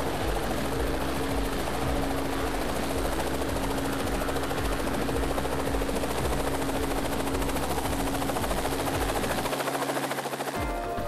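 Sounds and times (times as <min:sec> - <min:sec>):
helicopter rotor chop: 0:00.0 - 0:11.0.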